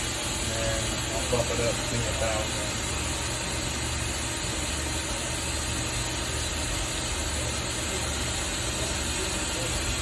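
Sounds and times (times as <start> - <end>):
lathe humming: 0.0 - 10.0.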